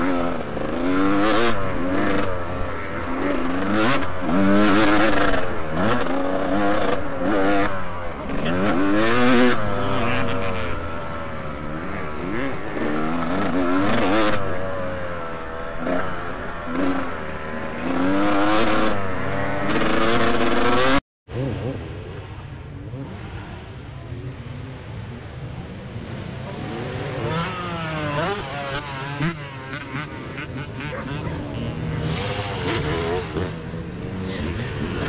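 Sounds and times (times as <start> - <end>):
motocross bikes revving: 0.0 - 35.0.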